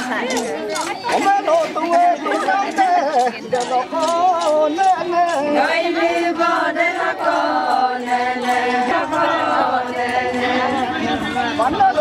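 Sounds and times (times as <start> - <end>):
group of voices chanting: 0.0 - 12.0.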